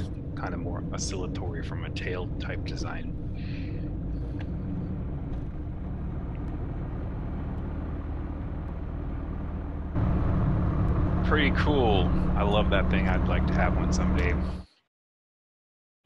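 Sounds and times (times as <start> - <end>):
light aircraft engine drone: 0.0 - 14.7.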